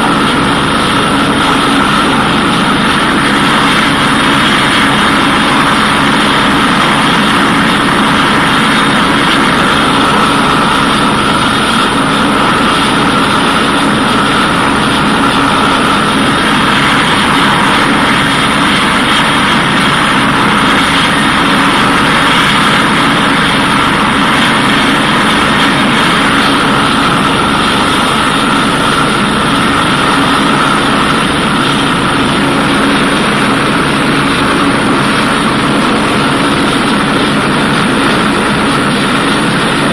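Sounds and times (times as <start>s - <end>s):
helicopter turbines and rotor: 0.0s - 39.9s.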